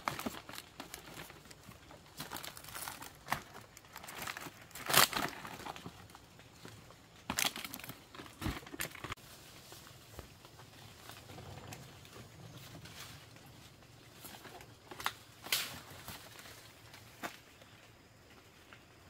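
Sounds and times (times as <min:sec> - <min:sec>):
palm frond tearing crackle: 0:00.0 - 0:17.7
palm fronds rustling and crinkling: 0:00.0 - 0:19.0.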